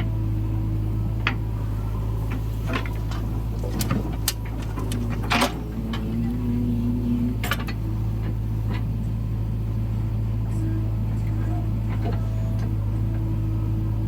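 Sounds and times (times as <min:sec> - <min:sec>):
diesel machinery humming: 0:00.0 - 0:14.0.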